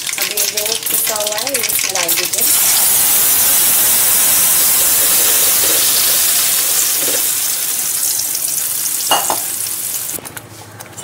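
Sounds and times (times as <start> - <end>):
paste sizzling in hot oil: 0.1 - 10.2.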